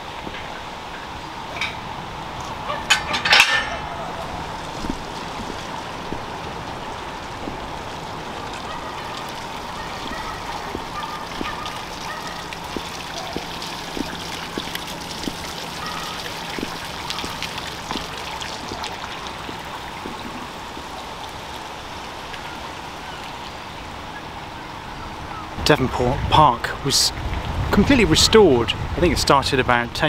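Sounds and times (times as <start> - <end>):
fountain water splashing: 0.0 - 30.0.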